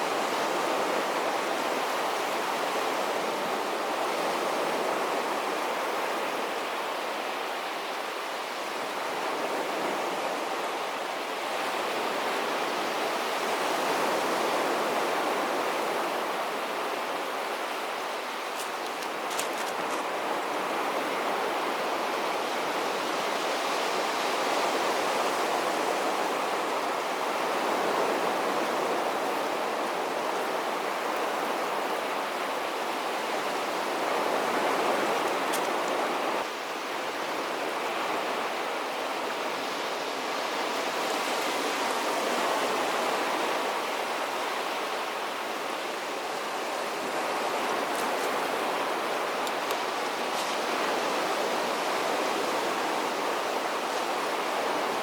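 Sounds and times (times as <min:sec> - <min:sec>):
surf washing onto beach: 0:00.0 - 0:55.0.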